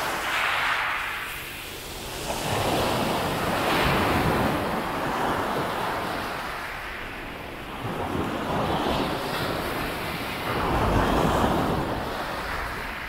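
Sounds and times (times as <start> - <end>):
sea waves washing up beach: 0.0 - 13.0
wind rumble on microphone: 0.0 - 13.0.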